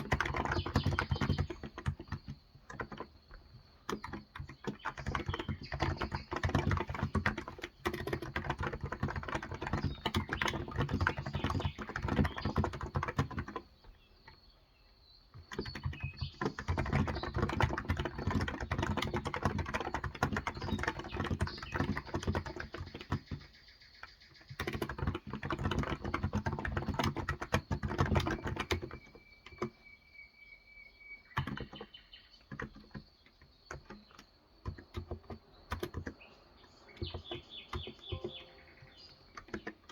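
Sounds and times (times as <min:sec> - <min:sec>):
soft keyboard typing: 0:00.0 - 0:14.5, 0:15.2 - 0:29.9, 0:31.3 - 0:39.9
faint bird chirping: 0:00.0 - 0:39.9.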